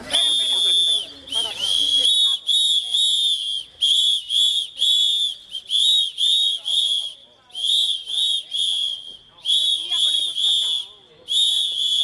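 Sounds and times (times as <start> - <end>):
shrill whistle blasts: 0.0 - 12.0.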